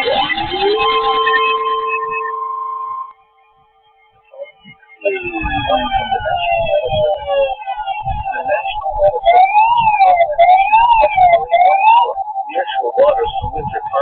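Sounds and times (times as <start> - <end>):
falling tones: 0.0 - 14.0
siren-like wail: 0.0 - 14.0
steady tone: 0.0 - 14.0.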